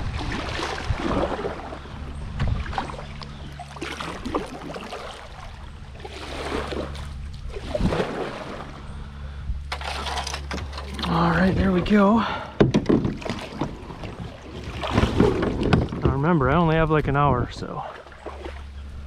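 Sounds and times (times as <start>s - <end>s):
paddle splashing in water: 0.0s - 8.8s, 9.7s - 16.3s, 17.8s - 18.7s
steady low hum: 0.0s - 19.0s.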